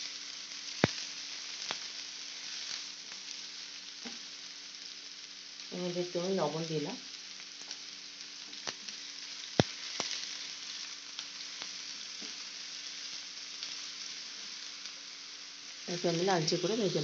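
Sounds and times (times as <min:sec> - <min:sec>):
onion sizzling in a pan: 0:00.0 - 0:17.0.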